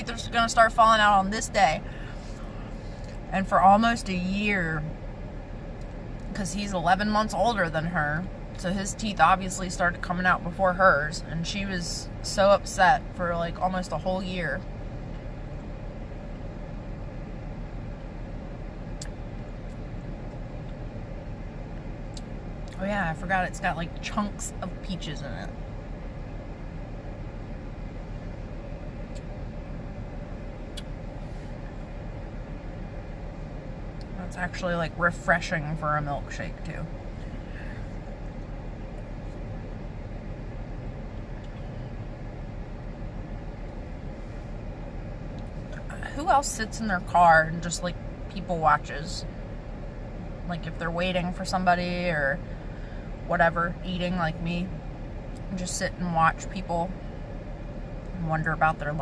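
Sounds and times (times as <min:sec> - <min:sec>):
car cabin hum: 0:00.0 - 0:59.0
faint steady tone: 0:00.0 - 0:59.0.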